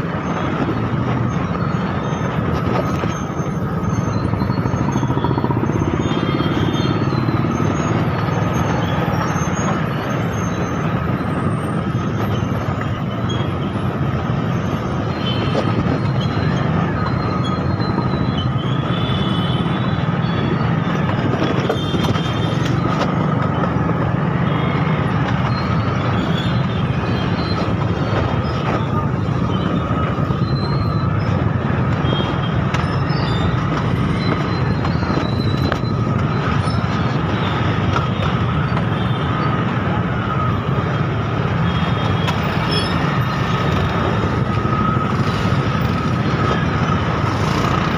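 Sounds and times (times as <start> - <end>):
city traffic: 0.0 - 47.9.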